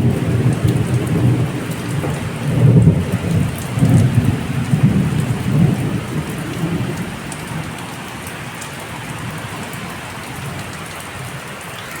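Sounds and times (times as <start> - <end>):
thunder rumbling: 0.0 - 10.7
heavy rain falling: 0.0 - 12.0
raindrop ticks: 0.0 - 12.0.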